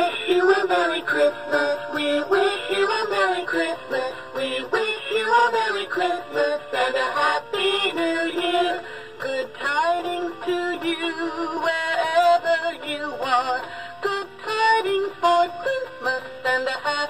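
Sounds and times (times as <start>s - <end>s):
electronic christmas song with singing: 0.0s - 17.0s.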